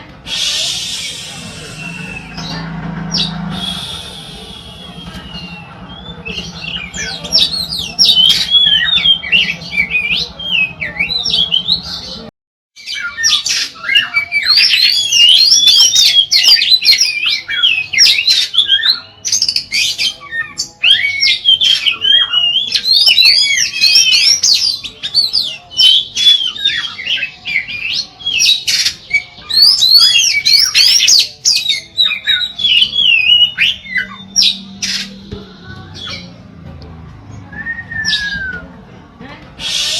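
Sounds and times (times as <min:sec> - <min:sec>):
bird singing whistled notes: 0:00.3 - 0:35.4, 0:37.5 - 0:38.7.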